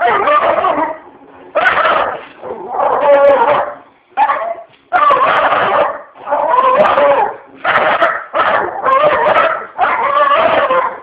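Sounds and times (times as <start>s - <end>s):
dog whining barks: 0.0s - 11.0s.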